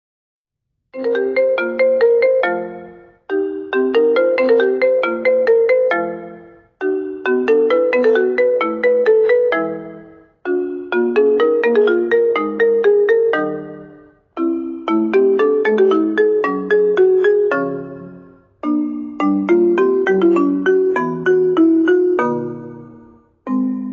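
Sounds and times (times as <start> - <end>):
phone ringtone tune: 1.0 - 23.9.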